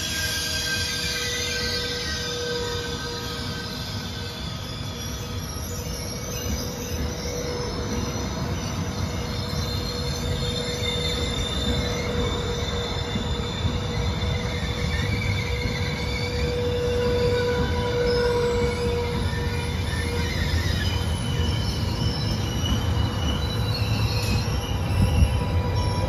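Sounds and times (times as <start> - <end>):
steady squealing tone: 0.0 - 26.0
train wheels rumbling on rail: 0.0 - 26.0.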